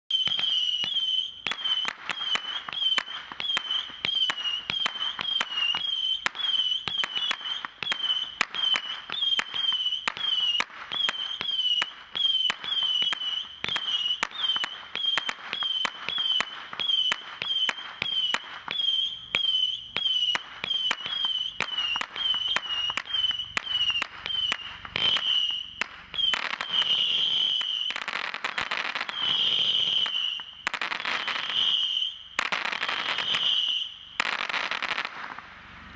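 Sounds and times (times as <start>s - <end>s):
firework cracks: 0.1s - 35.9s
firework screaming whistles: 0.1s - 35.9s.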